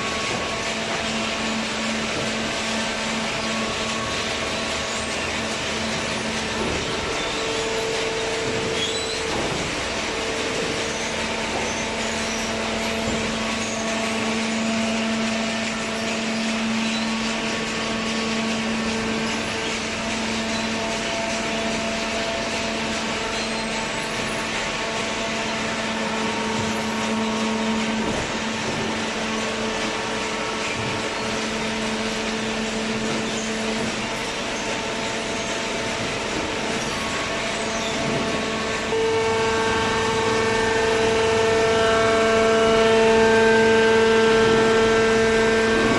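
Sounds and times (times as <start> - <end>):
hydraulic baler motor humming: 0.0 - 45.9.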